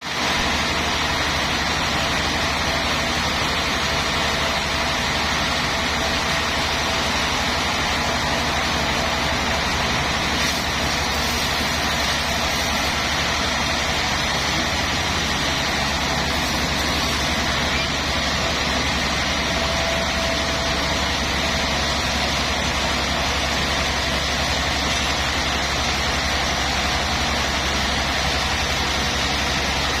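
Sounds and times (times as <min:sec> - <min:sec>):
sawmill machinery droning: 0:00.0 - 0:30.0.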